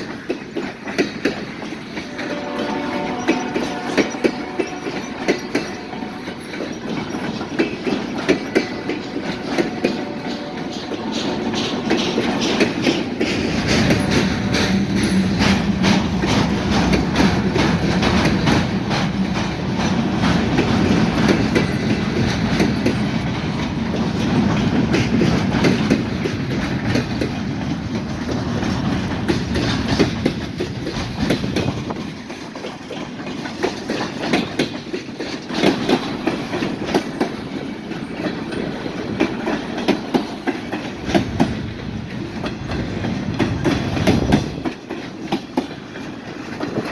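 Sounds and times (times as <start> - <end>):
freight train rumbling: 0.0 - 46.9
train wheels clicking over rail joints: 0.0 - 46.9.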